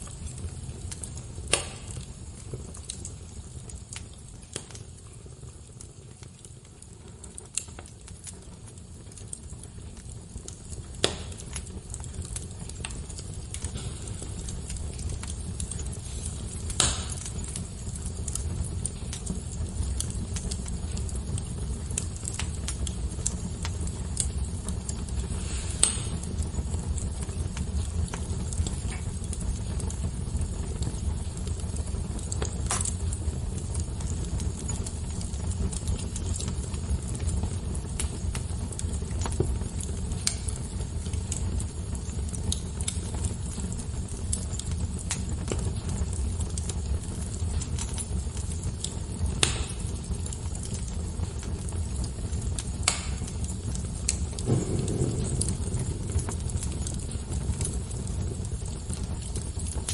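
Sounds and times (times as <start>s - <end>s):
fire crackles and pops: 0.0s - 59.9s
wood fire rumbling: 0.0s - 59.9s.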